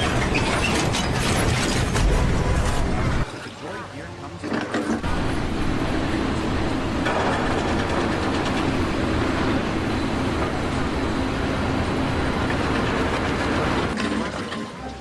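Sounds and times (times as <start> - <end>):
large machine running: 0.0 - 3.3, 4.4 - 15.0.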